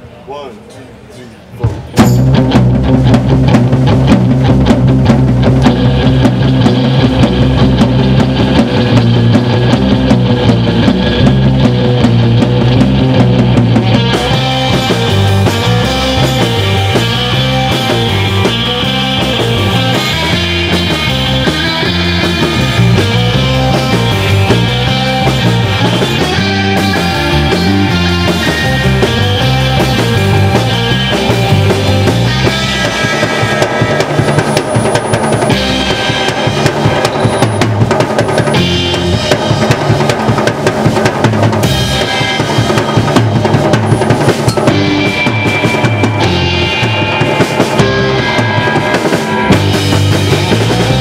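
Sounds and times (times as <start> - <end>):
drum kit: 1.5 - 51.0
electric guitar: 1.6 - 51.0
surf rock band playing: 1.6 - 51.0
electric bass: 2.0 - 51.0.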